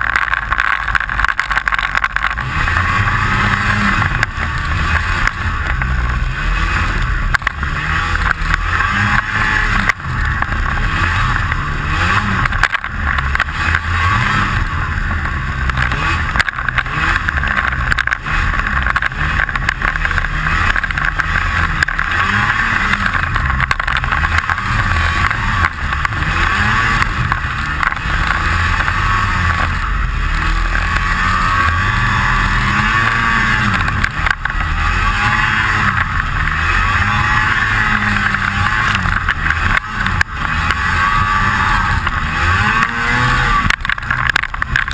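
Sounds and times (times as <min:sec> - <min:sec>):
rattle: 0:00.0 - 0:44.9
snowmobile engine revving: 0:00.0 - 0:44.9.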